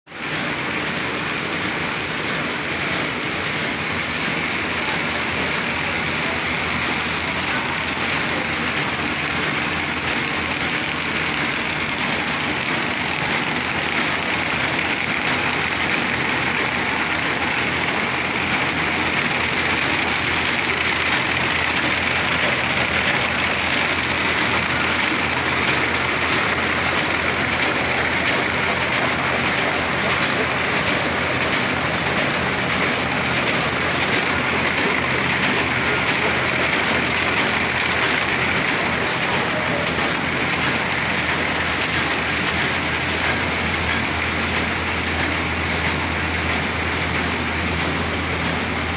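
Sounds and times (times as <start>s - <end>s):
paper bag machine running: 0.2s - 48.9s.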